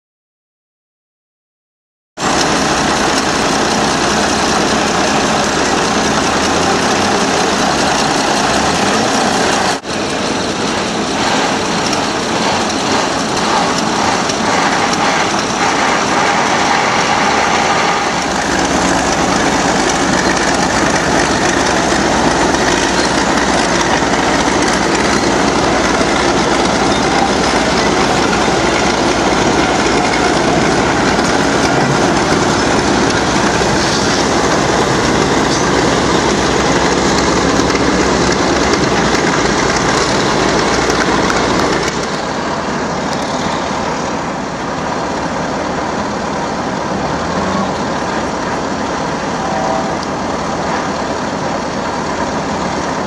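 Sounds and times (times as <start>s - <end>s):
heavy low rumble: 2.2s - 53.0s
machinery engine running: 2.2s - 53.0s.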